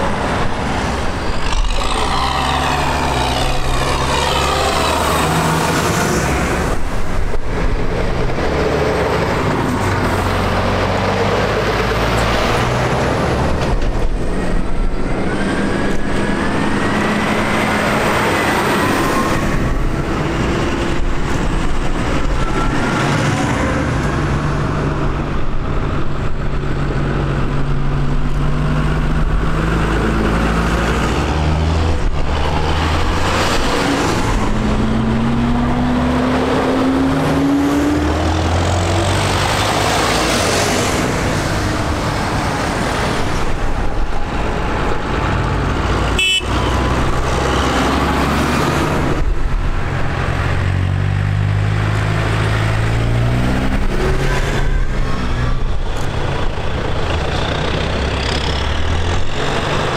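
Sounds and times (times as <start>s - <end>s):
tractor diesel engines: 0.0s - 59.9s.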